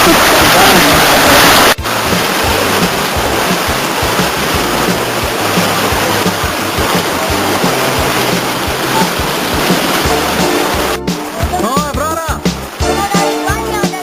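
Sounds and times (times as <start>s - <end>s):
heavy rain hissing: 0.0s - 14.0s
music with low bass: 1.8s - 14.0s.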